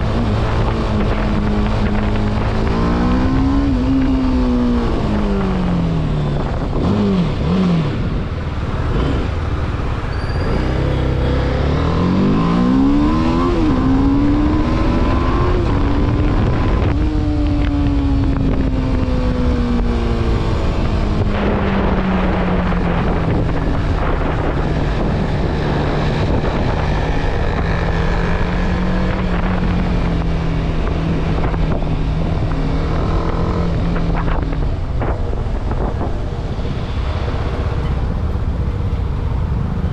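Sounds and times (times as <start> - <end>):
motorcycle engine revving: 0.0 - 37.8
road noise: 0.0 - 39.9
wind: 0.0 - 39.9.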